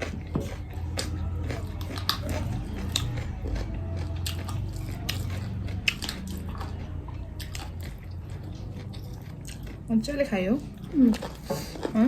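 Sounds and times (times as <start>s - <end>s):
chewing and mouth sounds: 0.0s - 12.0s.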